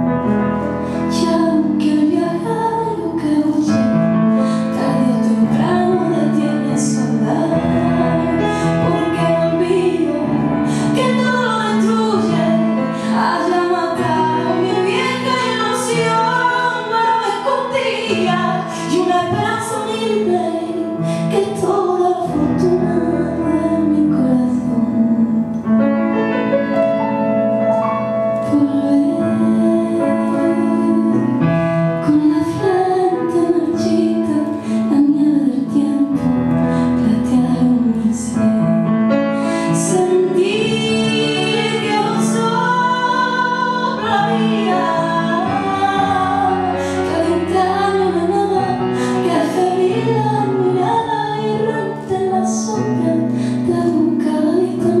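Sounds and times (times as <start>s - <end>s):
instrumental accompaniment: 0.0s - 55.0s
woman singing into a microphone: 0.9s - 25.6s, 28.4s - 55.0s.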